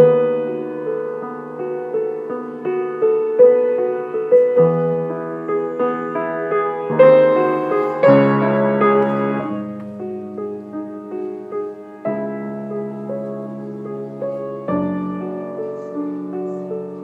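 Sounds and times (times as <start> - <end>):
slow classical piano piece: 0.0 - 17.0.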